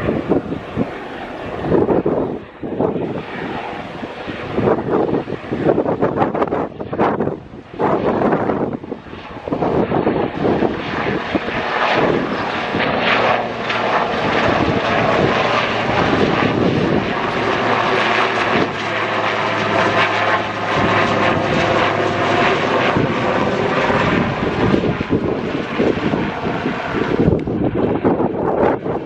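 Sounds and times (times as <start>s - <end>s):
jet engines whining: 0.0s - 29.0s
wind buffeting microphone: 0.0s - 29.0s.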